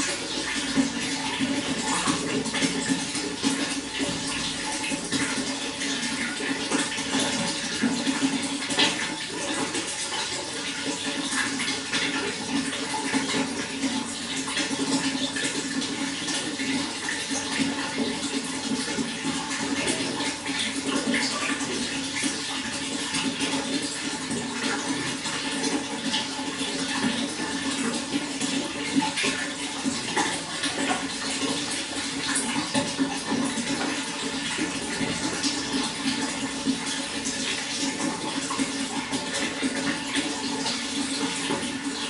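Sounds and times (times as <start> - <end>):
running water splashing: 0.0 - 42.0.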